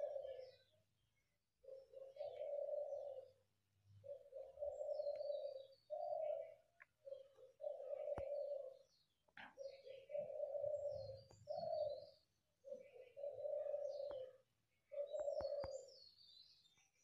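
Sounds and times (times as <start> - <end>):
pigeon cooing: 0.0 - 0.8, 1.6 - 16.1
small birds chirping: 0.0 - 17.0.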